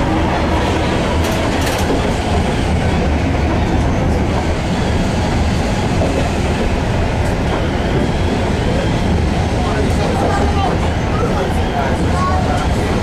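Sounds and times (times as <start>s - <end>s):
tram wheels rumbling on track: 0.0s - 13.0s.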